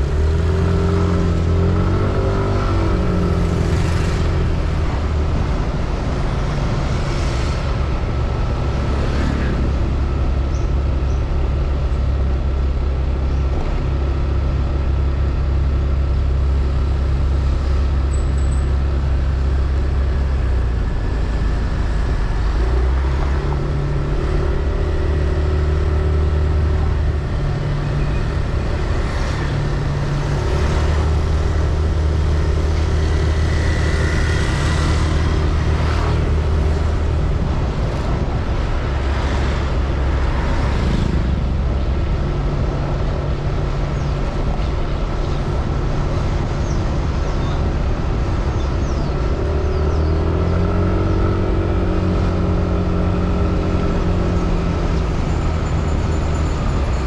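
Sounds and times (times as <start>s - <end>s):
road and traffic noise: 0.0s - 57.0s.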